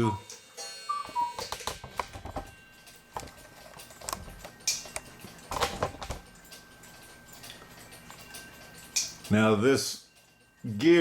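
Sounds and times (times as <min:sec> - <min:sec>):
small metal clock parts clicking: 0:01.4 - 0:11.0.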